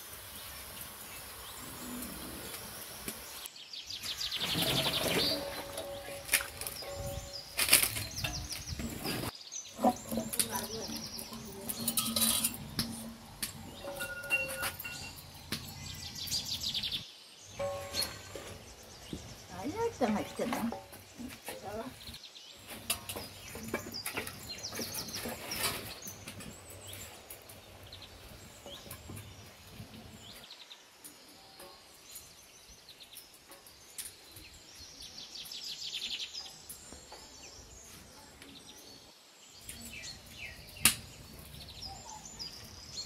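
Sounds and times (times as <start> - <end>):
birds chirping and trilling: 0.2 - 43.0.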